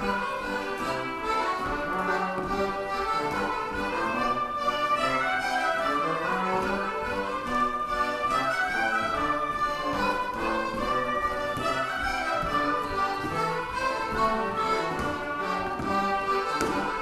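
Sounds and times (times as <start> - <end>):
fiddle folk dance tune: 0.0 - 17.0.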